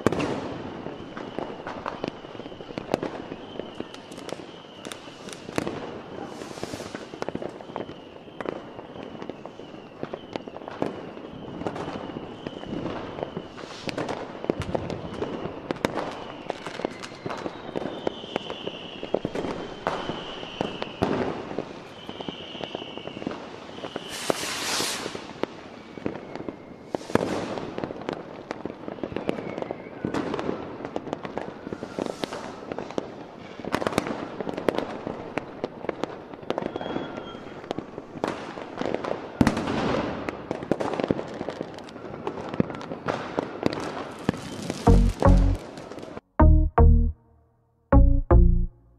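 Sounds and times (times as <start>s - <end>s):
fireworks whistles: 0.0s - 34.8s, 36.3s - 46.2s
fireworks bangs and crackles: 0.0s - 46.2s.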